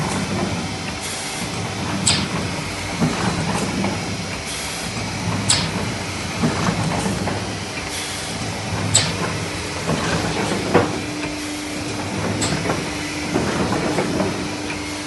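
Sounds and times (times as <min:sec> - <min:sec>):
die cutter mechanical clatter: 0:00.0 - 0:15.0.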